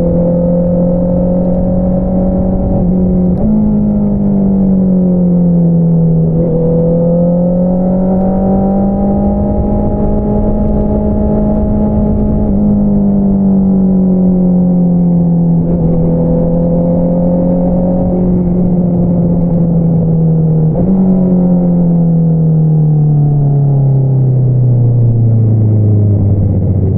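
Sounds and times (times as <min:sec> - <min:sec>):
motorcycle engine while riding: 0:00.0 - 0:26.9.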